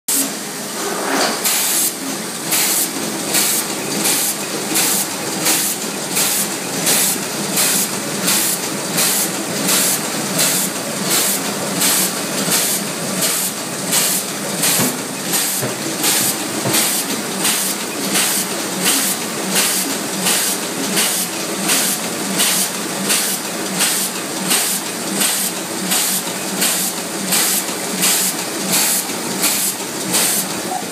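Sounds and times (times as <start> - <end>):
mechanical hum: 0.1 - 30.9.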